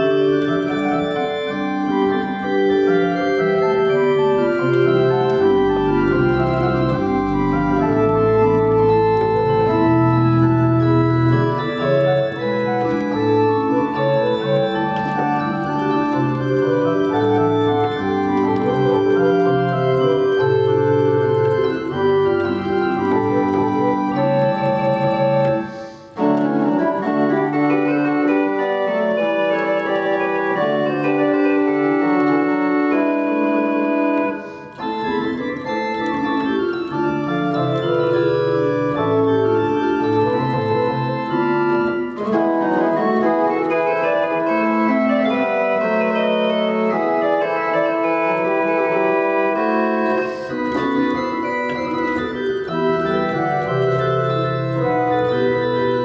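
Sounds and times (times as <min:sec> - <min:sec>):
church organ playing: 0:00.0 - 0:56.0.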